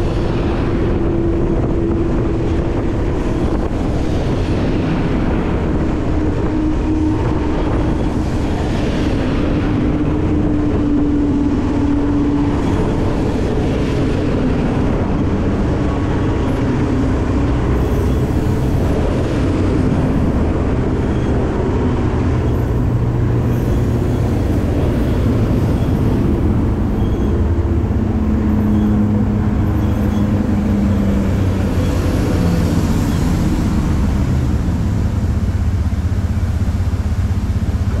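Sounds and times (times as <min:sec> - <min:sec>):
spinning ride rumble: 0:00.0 - 0:38.0.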